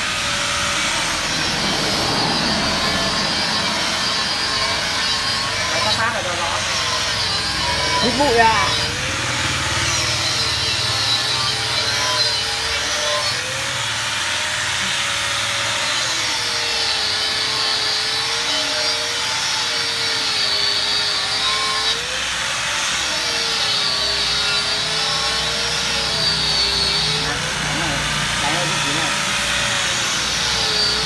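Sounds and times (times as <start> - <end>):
angle grinder whine: 0.0 - 31.0.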